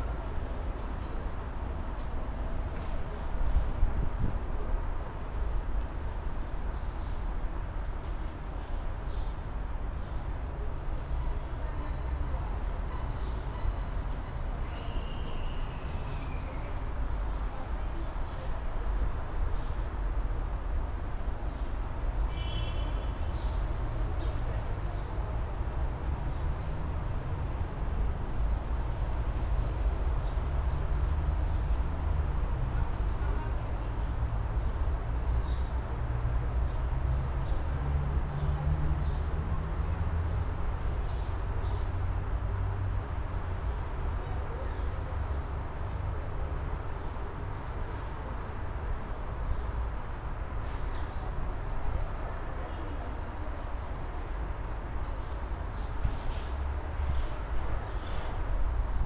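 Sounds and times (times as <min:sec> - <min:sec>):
city noise: 0:00.0 - 0:59.0.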